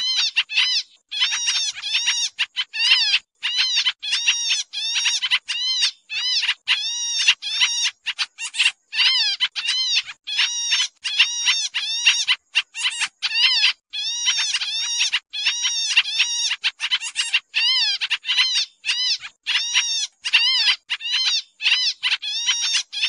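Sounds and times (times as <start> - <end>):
bird chattering calls: 0.0 - 23.0.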